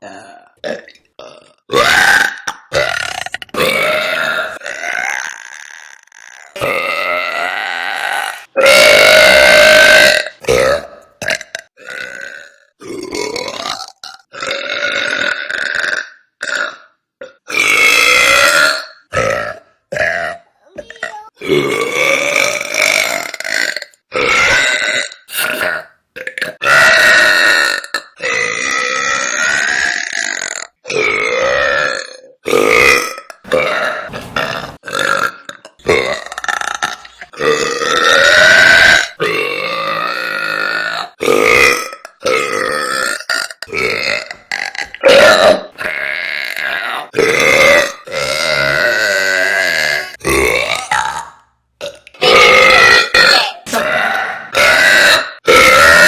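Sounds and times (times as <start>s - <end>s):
woman burping loudly: 0.0s - 56.0s.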